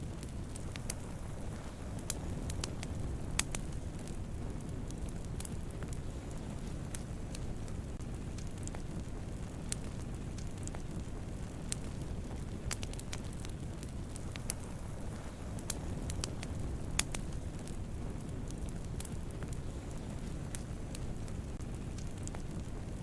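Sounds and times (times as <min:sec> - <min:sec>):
burning wood crackling: 0:00.0 - 0:23.0
campfire flames rumbling: 0:00.0 - 0:23.0.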